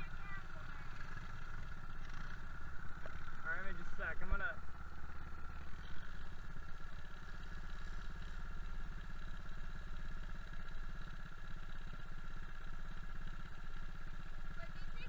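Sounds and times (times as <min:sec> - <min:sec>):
minibike engine running: 0:00.0 - 0:15.0.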